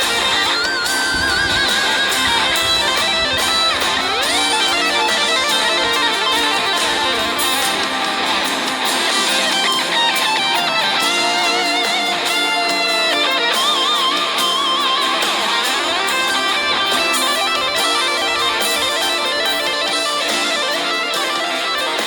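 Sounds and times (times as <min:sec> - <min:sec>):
lead electric guitar: 0:00.0 - 0:22.0
strummed guitar chords: 0:00.0 - 0:22.0.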